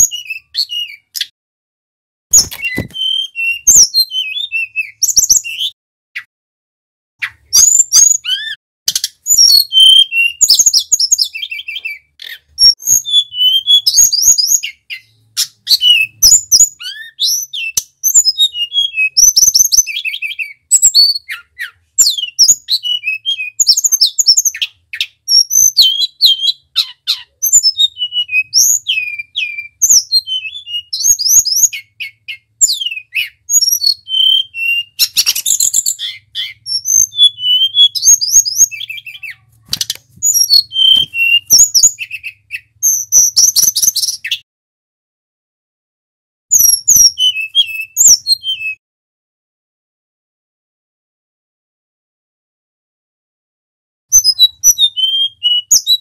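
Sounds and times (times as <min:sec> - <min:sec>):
bird singing: 0:00.0 - 0:01.3, 0:02.3 - 0:06.3, 0:07.2 - 0:44.4, 0:46.5 - 0:48.8, 0:54.1 - 0:56.0.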